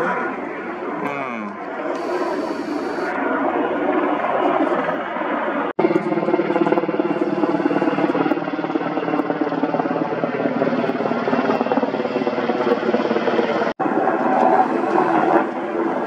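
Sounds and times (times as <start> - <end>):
helicopter rotor beating: 0.0 - 16.0.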